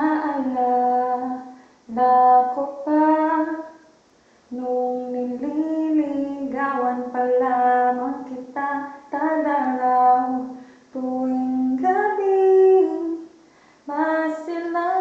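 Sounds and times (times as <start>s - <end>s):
person singing unaccompanied: 0.0s - 3.9s, 4.5s - 15.0s.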